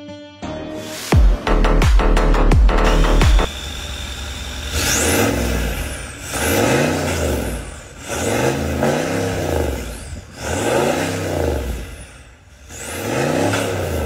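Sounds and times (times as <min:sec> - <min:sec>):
diesel engine revving: 0:01.1 - 0:14.0.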